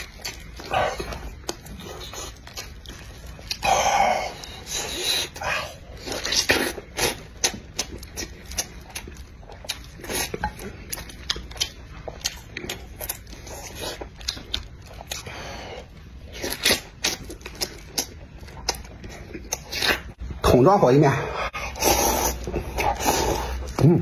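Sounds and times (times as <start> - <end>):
biting and tearing meat: 0.0 - 20.2
man chewing with wet smacks: 0.0 - 20.4, 21.6 - 24.0.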